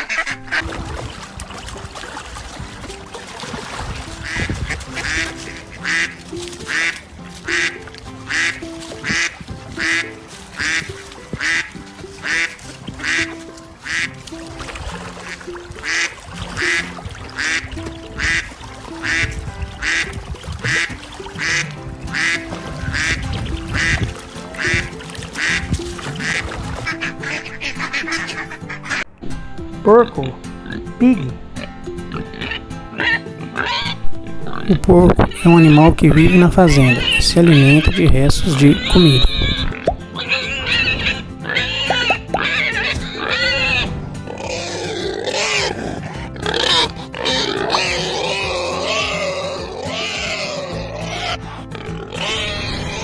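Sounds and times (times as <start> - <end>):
duck quacking: 0.0 - 0.7, 4.2 - 14.2, 15.1 - 29.0, 31.6 - 53.0
background music: 0.0 - 53.0.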